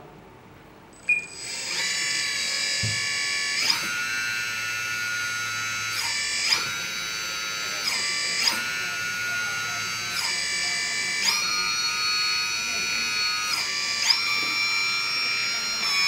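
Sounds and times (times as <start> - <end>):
hydraulic pump whining: 1.0 - 16.0.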